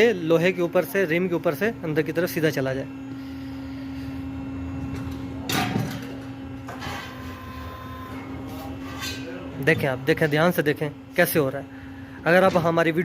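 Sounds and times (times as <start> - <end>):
tyre changer machine hum: 0.0 - 13.0.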